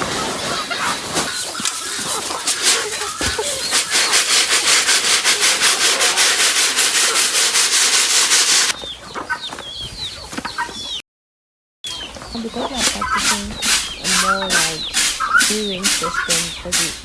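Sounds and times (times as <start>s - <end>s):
guinea fowl rasping calls: 0.1s - 11.0s, 11.9s - 16.9s.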